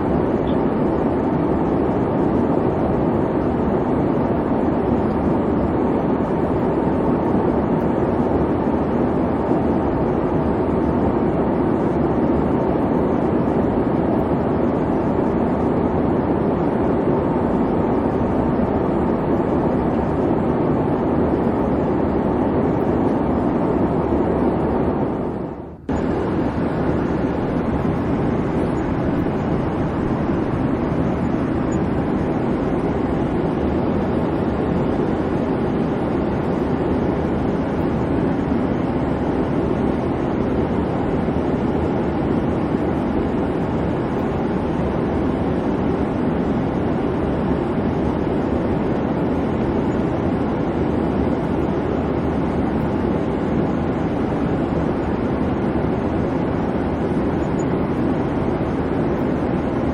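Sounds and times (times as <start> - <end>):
airplane engine and airflow rumble: 0.0 - 59.9.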